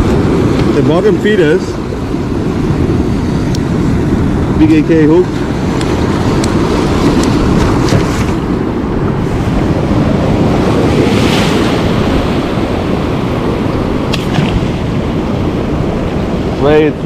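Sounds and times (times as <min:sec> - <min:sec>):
sea surf breaking: 0:00.0 - 0:17.0
wind buffeting microphone: 0:00.0 - 0:17.0.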